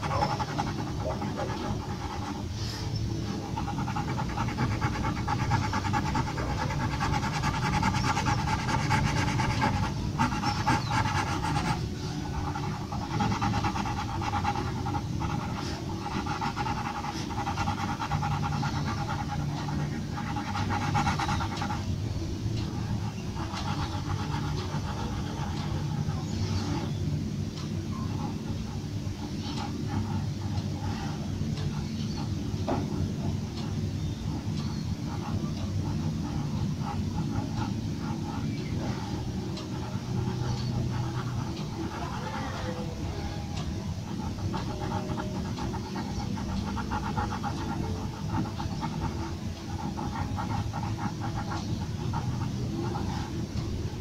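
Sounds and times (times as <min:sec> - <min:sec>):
pencil shading on paper: 0:00.0 - 0:21.9, 0:22.5 - 0:27.0, 0:27.9 - 0:54.0.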